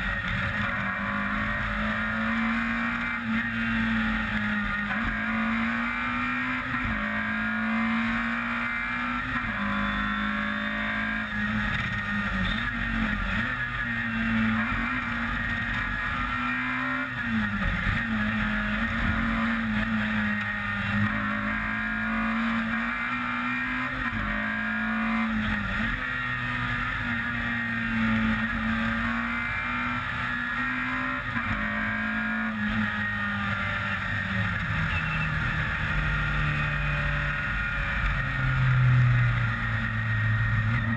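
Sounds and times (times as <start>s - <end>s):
rally car engine at high revs: 0.0s - 40.9s.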